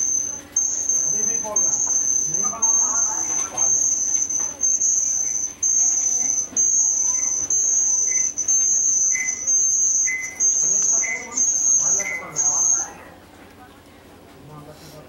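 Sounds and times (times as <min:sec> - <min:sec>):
cricket trilling: 0:00.0 - 0:13.0
faint low chirps: 0:00.0 - 0:13.1.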